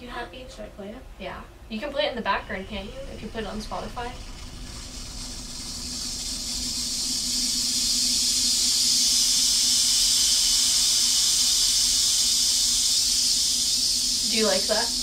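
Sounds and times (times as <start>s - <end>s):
low steady hum: 0.0s - 15.0s
steady hiss: 1.8s - 15.0s.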